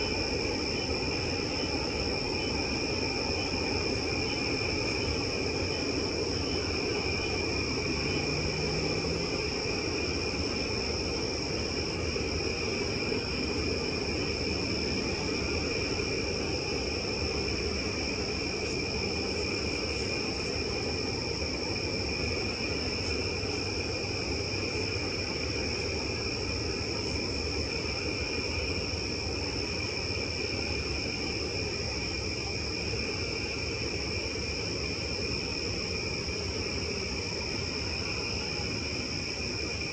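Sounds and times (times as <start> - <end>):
night insects droning: 0.0 - 39.9.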